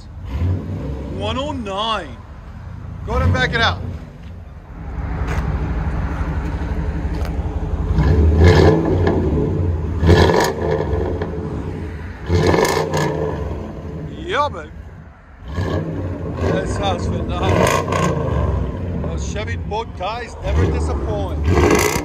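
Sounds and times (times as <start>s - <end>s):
engine revving: 0.0s - 2.0s, 2.8s - 22.0s
vehicle engine idling rumble: 0.0s - 22.0s.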